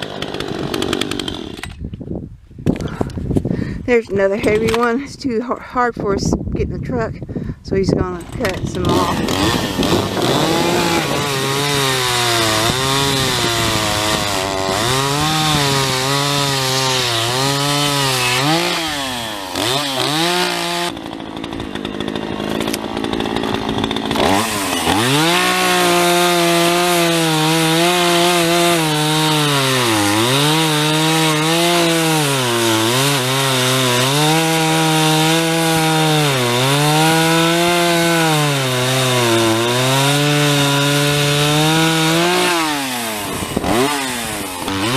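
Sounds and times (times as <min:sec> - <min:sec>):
chainsaw cutting wood: 0:00.0 - 0:02.0, 0:08.1 - 0:44.9.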